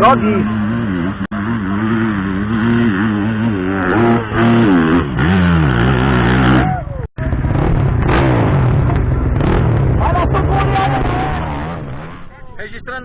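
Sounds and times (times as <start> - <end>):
dirt bike engine revving: 0.0 - 12.6.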